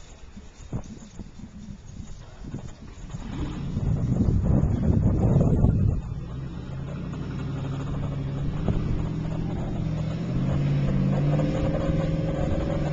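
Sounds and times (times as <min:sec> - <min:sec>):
wind buffeting microphone: 0:00.0 - 0:12.9
engine running: 0:00.1 - 0:12.9.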